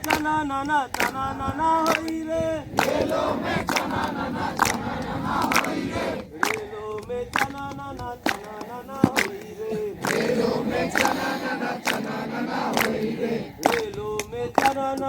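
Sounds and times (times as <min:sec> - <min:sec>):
group singing in chorus: 0:00.0 - 0:15.0.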